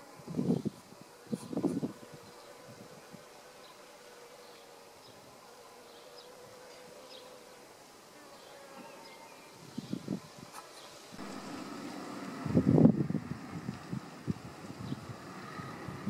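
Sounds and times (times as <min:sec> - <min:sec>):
insect-like buzz: 0:00.0 - 0:16.0.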